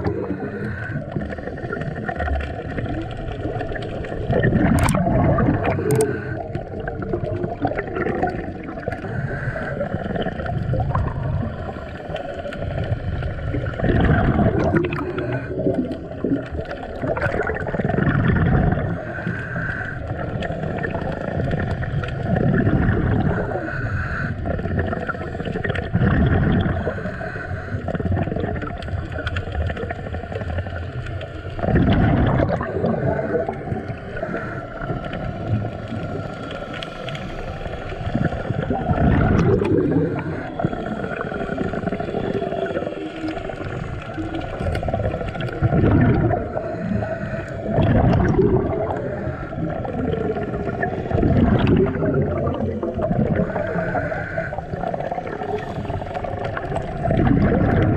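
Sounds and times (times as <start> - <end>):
diver exhaling bubbles: 0.0 - 57.9
underwater rumble: 0.0 - 57.9.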